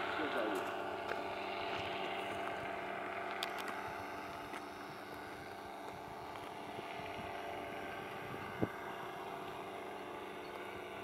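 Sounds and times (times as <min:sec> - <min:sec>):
paramotor engine droning: 0:00.0 - 0:11.0.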